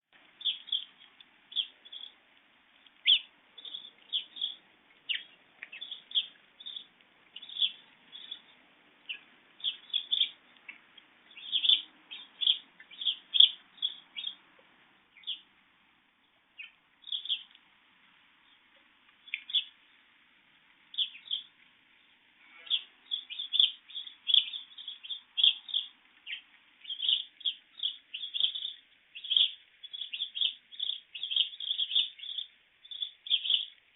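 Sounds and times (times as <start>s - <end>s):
birds chirping: 0.2s - 17.7s, 18.3s - 20.1s, 20.8s - 33.9s.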